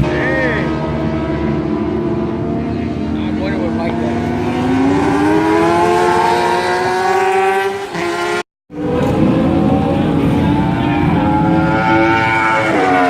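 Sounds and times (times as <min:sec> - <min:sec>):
motorcycle engine revving high: 0:00.0 - 0:13.0.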